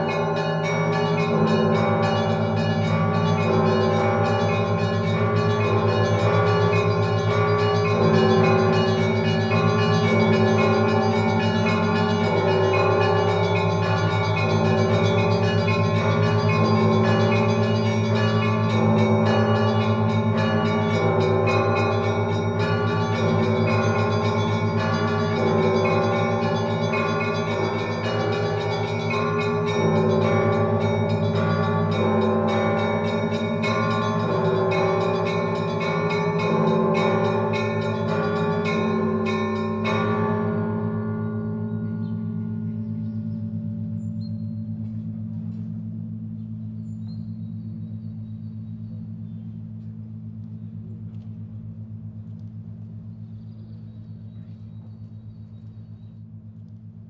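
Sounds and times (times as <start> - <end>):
small church bells struck quickly: 0.0 - 53.1
large bells ringing: 0.0 - 57.0.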